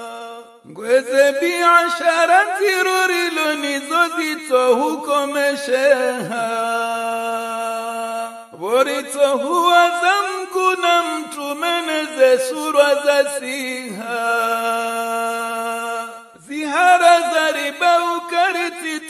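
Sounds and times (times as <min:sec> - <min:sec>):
man chanting devotional song: 0:00.0 - 0:19.0.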